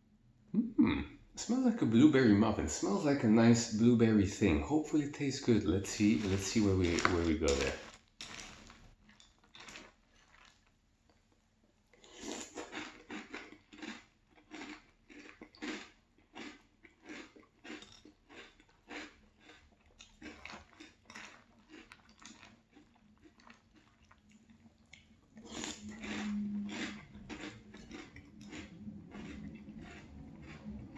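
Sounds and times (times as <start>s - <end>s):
chewing crunchy cereal: 2.7s - 30.9s.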